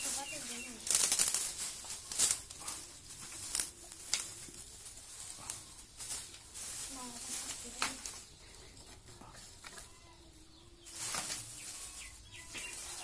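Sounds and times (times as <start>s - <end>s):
fire crackling: 0.0s - 13.0s
straw and twigs rustling: 0.0s - 13.0s.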